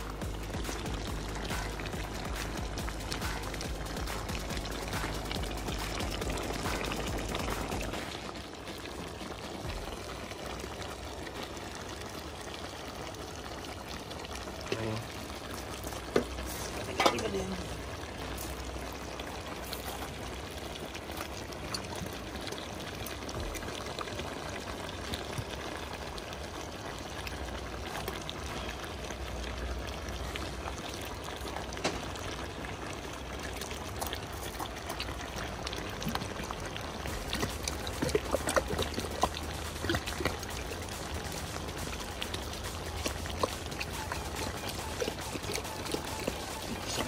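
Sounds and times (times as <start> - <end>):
stew bubbling and popping: 0.0 - 47.0.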